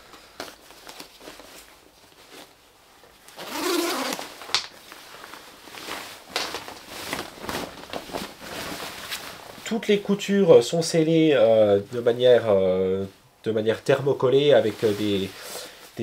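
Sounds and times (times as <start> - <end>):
rain jacket rustling: 0.0 - 13.1, 14.3 - 16.0.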